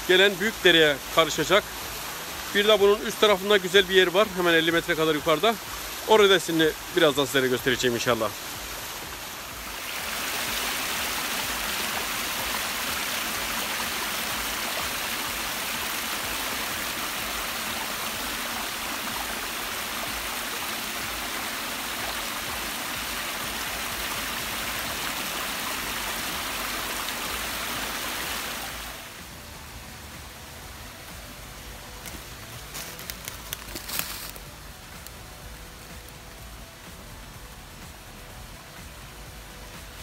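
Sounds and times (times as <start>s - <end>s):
waterfall splashing over rocks: 0.0s - 40.0s.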